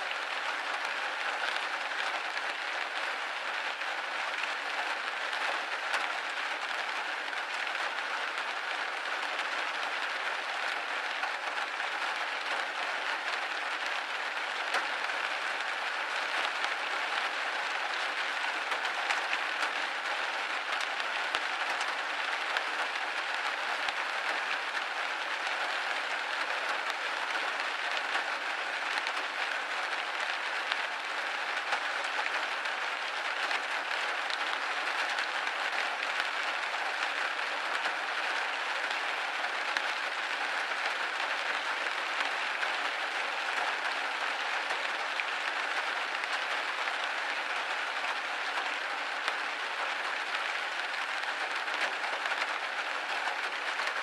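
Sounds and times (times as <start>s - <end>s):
rain hitting a window pane: 0.0s - 54.0s.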